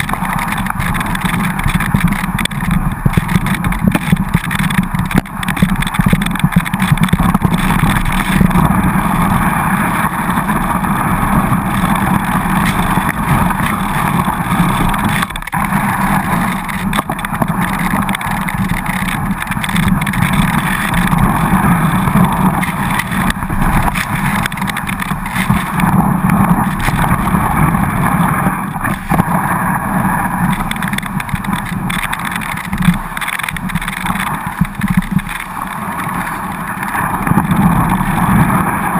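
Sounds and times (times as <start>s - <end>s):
skis sliding over snow: 0.0s - 38.9s.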